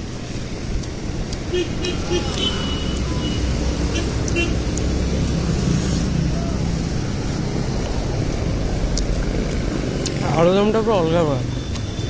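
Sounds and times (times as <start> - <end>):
roadside traffic rumble: 0.0 - 12.0.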